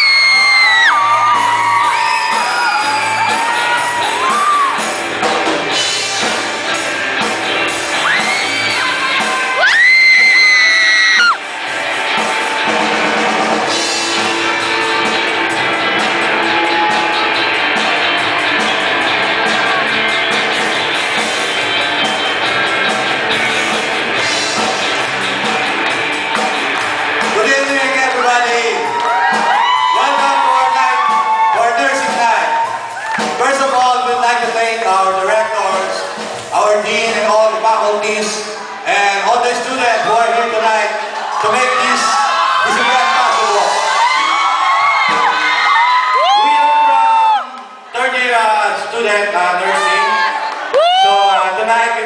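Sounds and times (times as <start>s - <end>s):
rock band playing: 0.0s - 52.0s.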